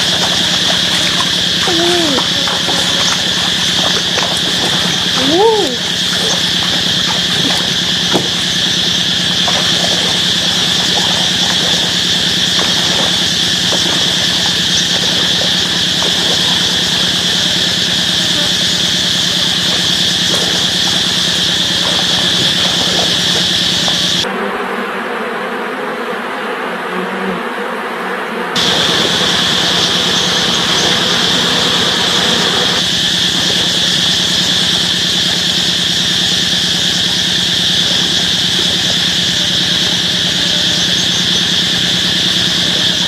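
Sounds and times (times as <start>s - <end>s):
insects whining: 0.0s - 25.0s, 28.4s - 43.0s
insects buzzing: 0.0s - 43.0s.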